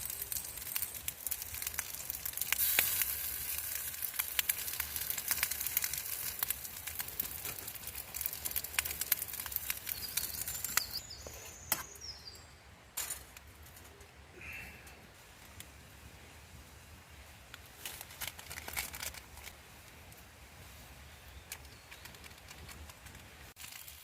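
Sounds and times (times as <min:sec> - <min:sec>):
campfire crackling and popping: 0:00.0 - 0:12.1, 0:13.2 - 0:24.0
faint hiss: 0:00.0 - 0:22.1.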